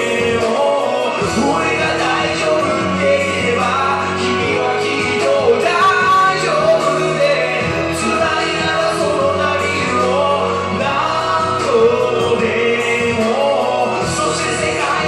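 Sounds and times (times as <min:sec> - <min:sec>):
hip-hop pop backing track: 0:00.0 - 0:15.0
man singing along: 0:00.0 - 0:15.0.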